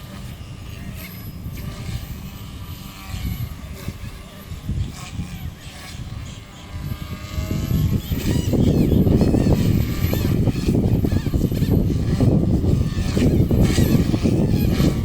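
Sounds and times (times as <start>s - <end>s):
rising motor whine: 0.0s - 15.0s
rough rattling rotor noise: 0.0s - 15.0s.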